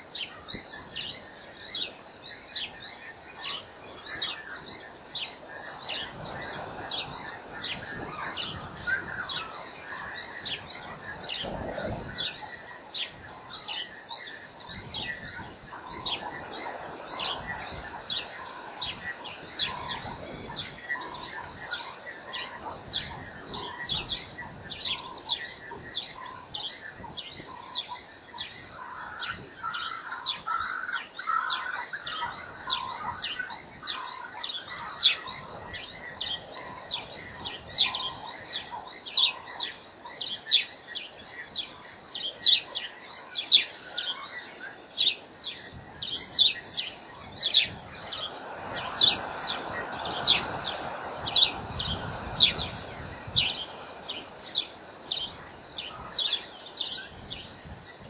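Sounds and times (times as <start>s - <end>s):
birds warbling: 0.0s - 58.0s.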